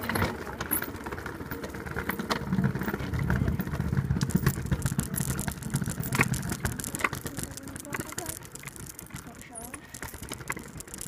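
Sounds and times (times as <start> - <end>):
clicks and rattles: 0.0 - 11.0
scooter wheels rolling over pavement: 0.0 - 11.0.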